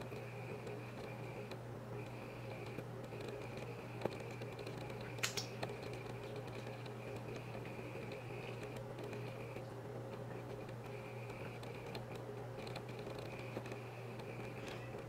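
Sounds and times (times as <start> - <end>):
faint clicks and taps: 0.0 - 15.0
steady low hum: 0.0 - 15.0.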